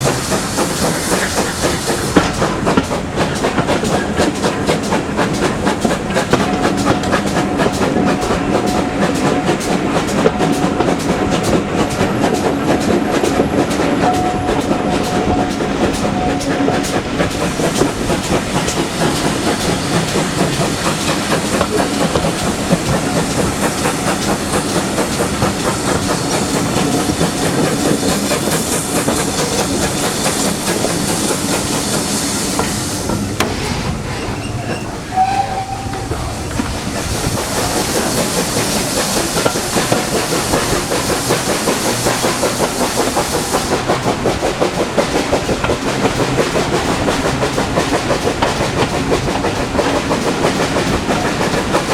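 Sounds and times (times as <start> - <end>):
train wheels clattering over rails: 0.0 - 51.9.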